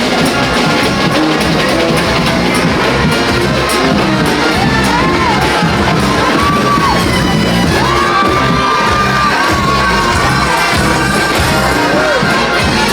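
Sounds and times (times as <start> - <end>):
crowd shouting: 0.0 - 12.9
parade music: 0.0 - 12.9.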